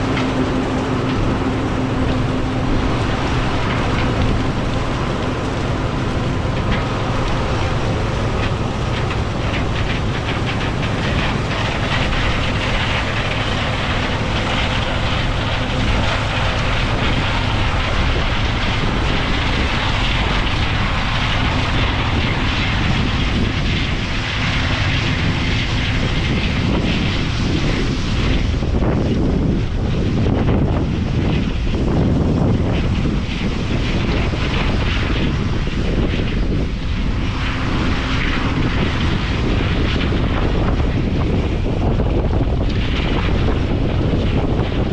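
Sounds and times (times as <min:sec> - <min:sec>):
diesel engine running under load: 0:00.0 - 0:44.9
rushing machinery noise: 0:00.0 - 0:44.9.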